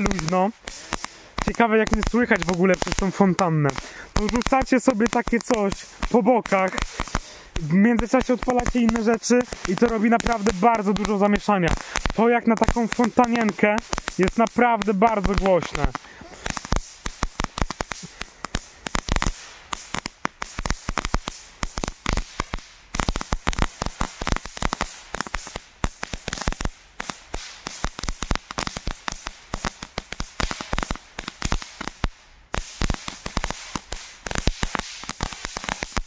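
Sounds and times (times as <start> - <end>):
firework fountain crackling pops: 0.0 - 36.0
hiss of sparks: 0.0 - 36.0.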